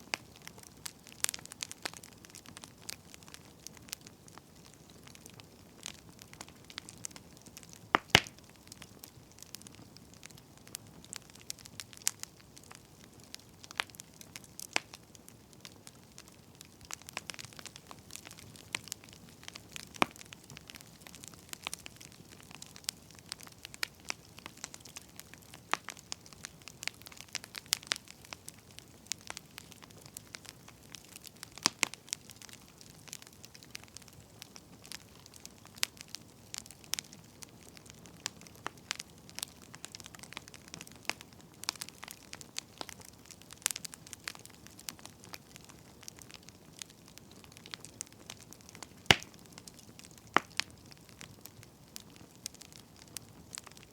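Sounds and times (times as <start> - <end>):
faint steady hiss: 0.0 - 53.9
firewood crackling: 0.0 - 53.9.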